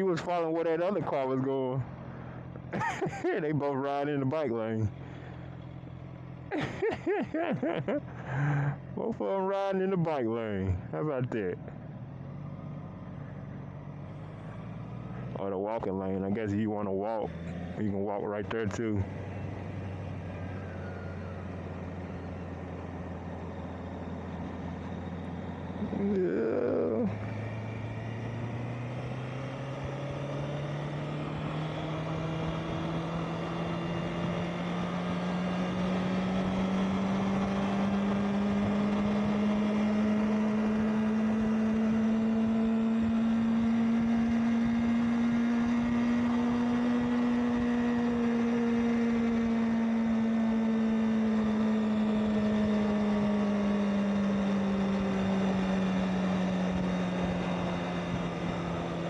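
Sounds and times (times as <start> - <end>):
motorcycle engine running: 0.0 - 4.0, 4.8 - 59.0.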